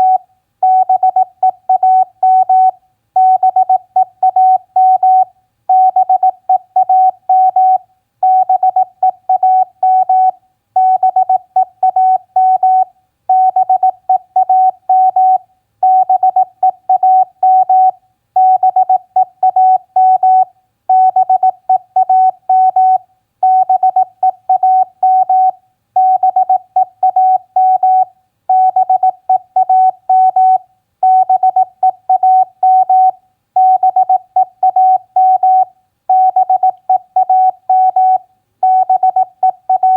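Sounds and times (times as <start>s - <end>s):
morse code beep tone: 0.0s - 39.9s.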